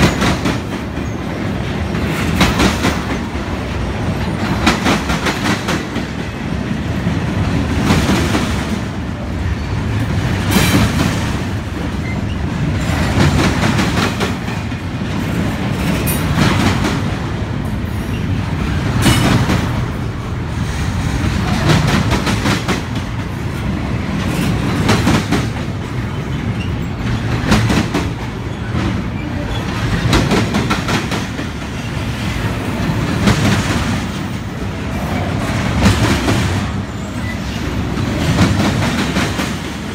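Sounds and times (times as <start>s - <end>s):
train wheels clacking: 0.0s - 9.0s, 9.8s - 39.9s.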